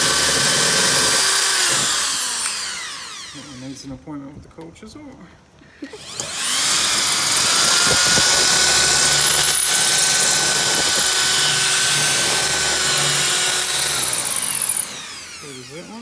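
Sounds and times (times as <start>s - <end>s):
power tool running under load: 0.0s - 3.9s, 5.8s - 16.0s.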